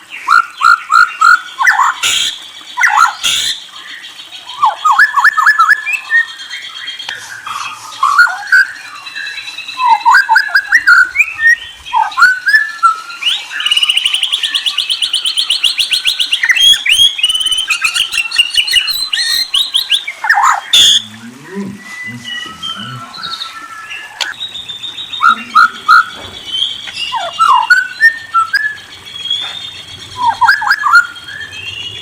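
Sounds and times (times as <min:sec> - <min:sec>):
songbird whistling and trilling: 0:00.0 - 0:32.0.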